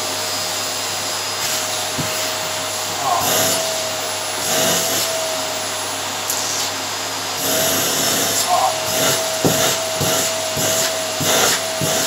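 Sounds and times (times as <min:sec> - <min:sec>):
vacuum cleaner on carpet: 0:00.0 - 0:12.0.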